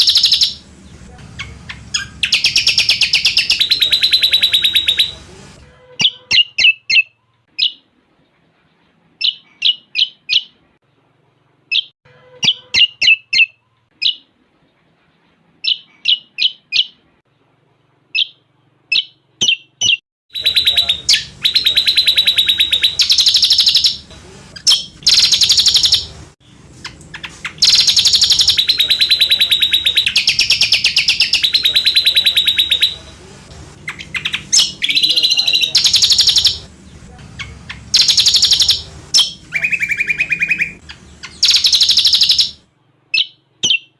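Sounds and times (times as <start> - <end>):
bird chirping and trilling: 0.0 - 0.7, 1.3 - 5.2, 5.9 - 7.9, 9.2 - 10.6, 11.7 - 14.3, 15.6 - 17.0, 18.1 - 33.1, 33.8 - 36.7, 37.3 - 43.9.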